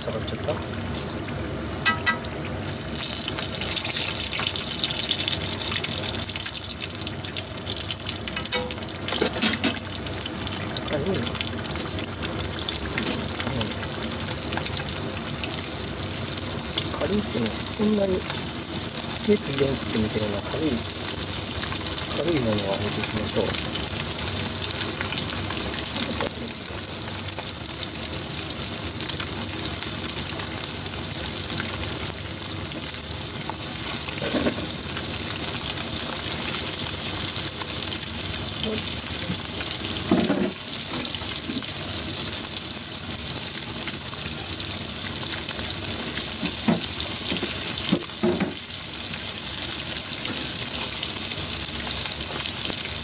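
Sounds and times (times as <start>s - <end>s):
fish frying in hot oil: 0.0s - 53.0s.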